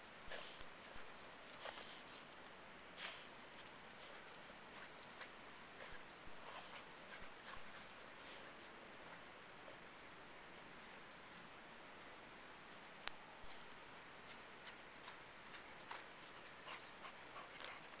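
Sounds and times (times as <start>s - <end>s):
dog paws crunching in snow: 0.0s - 10.3s, 12.8s - 18.0s
faint hiss: 0.0s - 18.0s.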